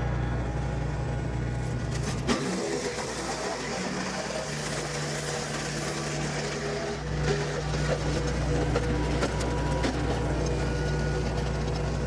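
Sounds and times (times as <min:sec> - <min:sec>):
wood chipper humming: 0:00.0 - 0:12.0.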